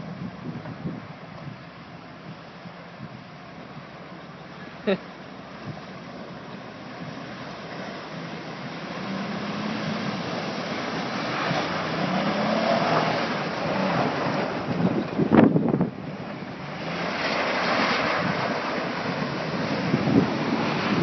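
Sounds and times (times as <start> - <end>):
water rushing and splashing: 0.0 - 21.0.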